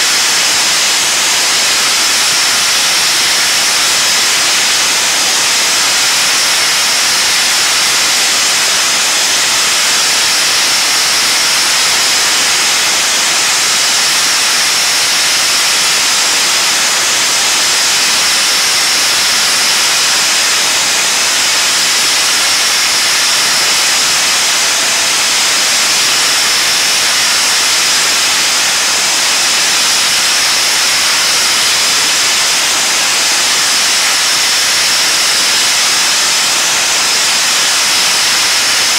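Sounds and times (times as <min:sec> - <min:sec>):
blasting nozzle hissing: 0:00.0 - 0:38.9
steady high whistle: 0:00.0 - 0:38.9.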